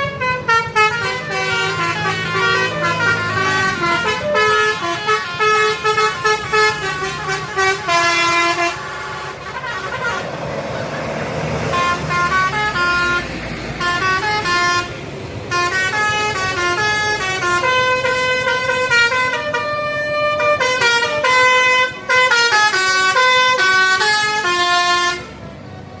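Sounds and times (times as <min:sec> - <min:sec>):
multi-tone air horn melody: 0:00.0 - 0:10.4, 0:11.6 - 0:25.4.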